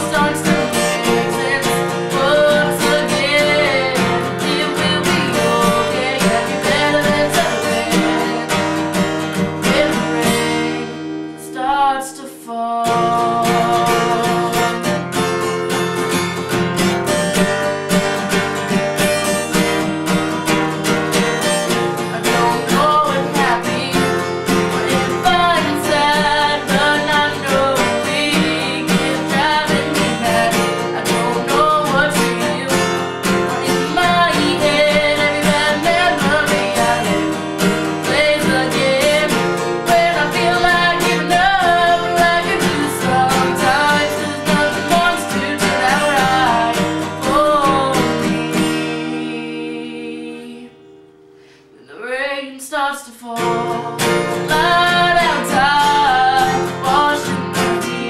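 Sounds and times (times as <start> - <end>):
person singing: 0.0 - 17.6, 19.3 - 50.9, 51.7 - 58.0
strummed acoustic guitar: 0.0 - 58.0.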